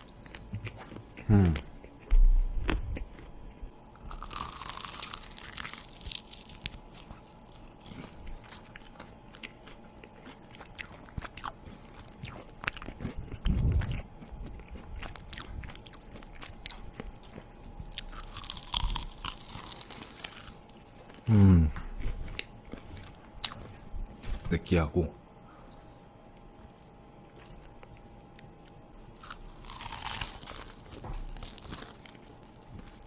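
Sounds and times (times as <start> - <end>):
person chewing crunchy food: 0.0 - 24.6, 25.6 - 33.0.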